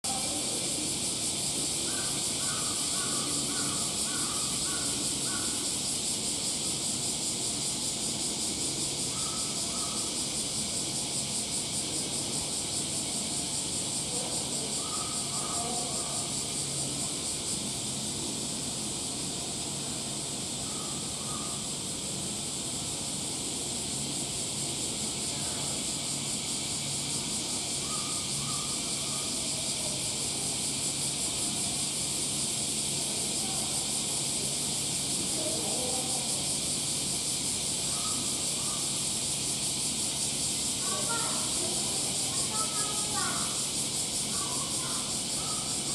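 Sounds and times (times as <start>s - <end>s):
high hiss: 0.0s - 45.9s.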